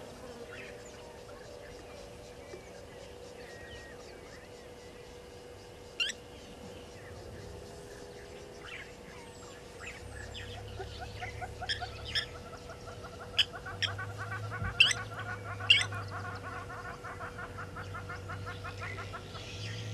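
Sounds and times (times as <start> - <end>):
birds calling with clinking calls: 0.0 - 19.9.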